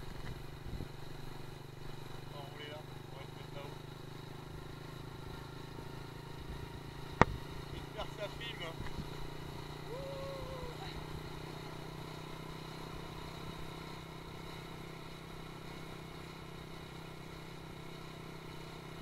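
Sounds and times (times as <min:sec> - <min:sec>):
motor scooter engine running: 0:00.0 - 0:19.0.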